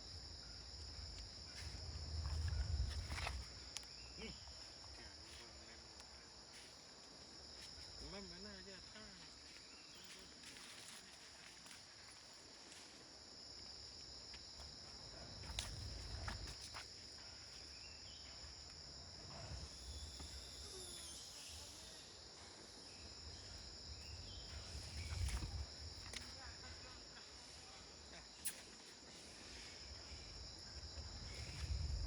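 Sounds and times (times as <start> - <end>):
insects chirping: 0.0 - 32.0.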